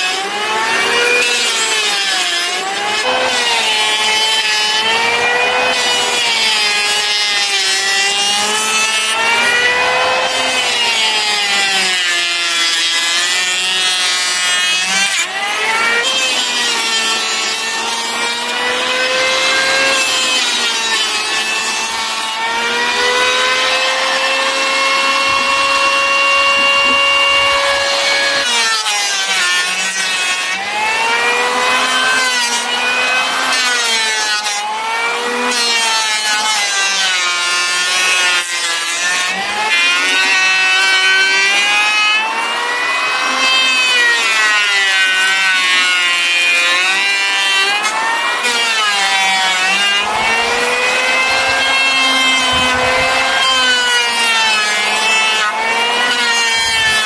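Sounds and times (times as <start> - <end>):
electric planer shaving wood: 0.0 - 57.0.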